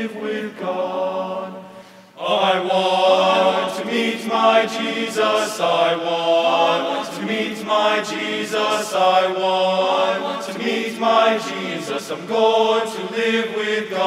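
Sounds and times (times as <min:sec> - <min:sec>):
boys' choir singing a cappella: 0:00.0 - 0:14.0.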